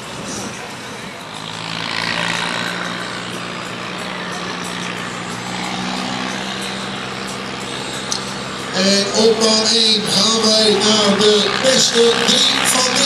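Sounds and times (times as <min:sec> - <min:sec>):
tractor engine running hard: 0:00.0 - 0:13.0.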